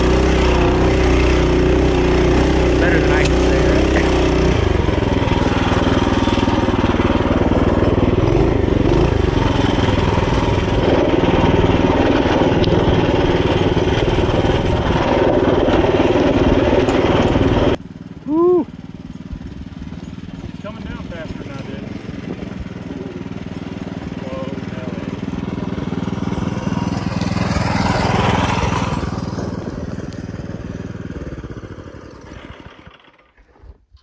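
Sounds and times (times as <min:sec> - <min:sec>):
distant engine: 0:00.0 - 0:33.9
small motorbike engine running hard: 0:00.0 - 0:33.9.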